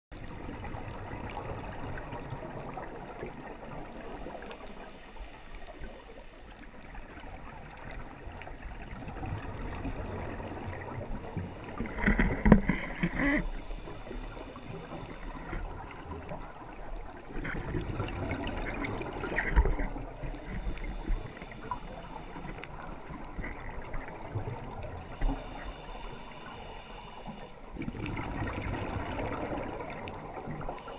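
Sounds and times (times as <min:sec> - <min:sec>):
low rush of water: 0:00.1 - 0:30.9
underwater bubbles gurgling: 0:00.1 - 0:30.9.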